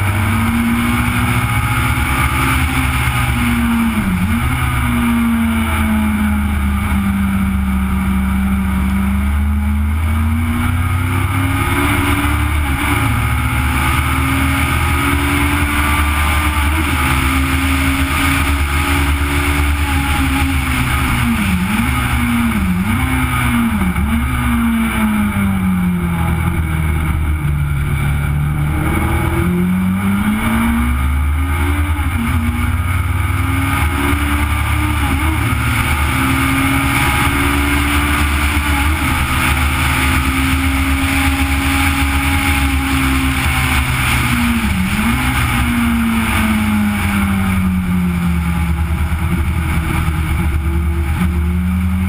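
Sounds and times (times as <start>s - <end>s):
racing engine revving: 0.0s - 52.0s.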